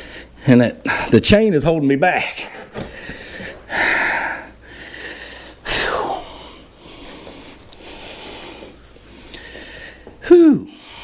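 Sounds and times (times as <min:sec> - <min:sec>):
man breathing heavily: 0:00.0 - 0:01.2, 0:02.4 - 0:11.0.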